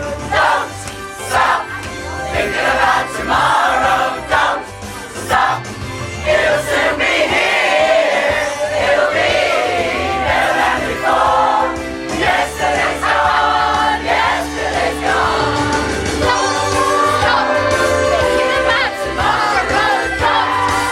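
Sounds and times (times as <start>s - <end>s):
accompaniment with bass line: 0.0s - 20.9s
pop choir singing: 0.0s - 20.9s.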